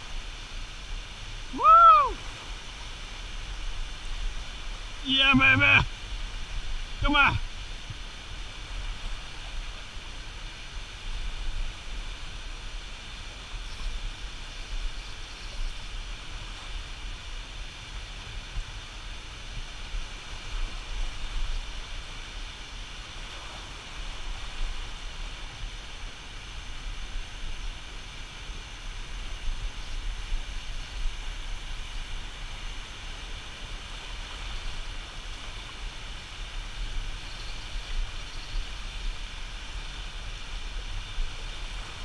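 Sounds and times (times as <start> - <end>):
water rushing at a dam: 0.0 - 42.0
wind rumble on microphone: 0.0 - 42.0.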